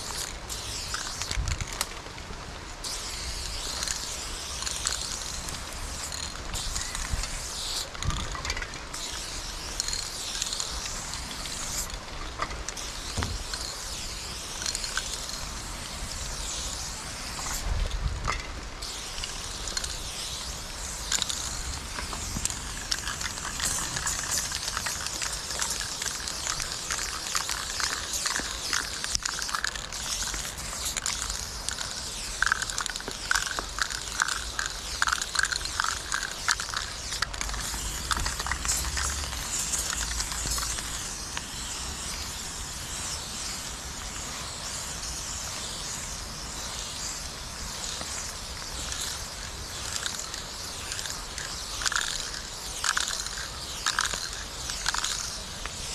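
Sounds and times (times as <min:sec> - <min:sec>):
spray can rattling: 0:00.0 - 0:55.9
spray paint can hissing: 0:00.0 - 0:55.9.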